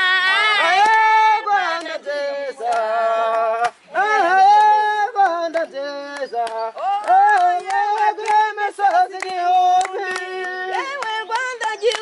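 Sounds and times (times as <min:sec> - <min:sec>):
people singing long wavering notes: 0:00.0 - 0:12.0.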